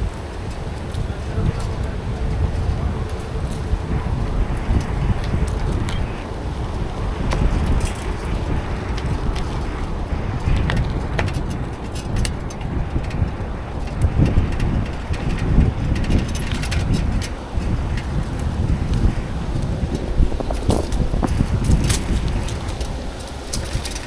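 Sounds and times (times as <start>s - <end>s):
bicycle tyre road noise: 0.0s - 24.0s
light clicks and rattles: 0.0s - 24.0s
wind rumbling on microphone: 0.0s - 24.0s.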